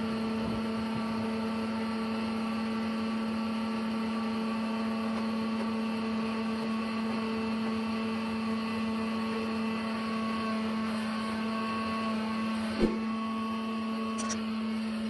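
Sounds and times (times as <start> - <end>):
sawmill machinery humming: 0.0 - 15.0.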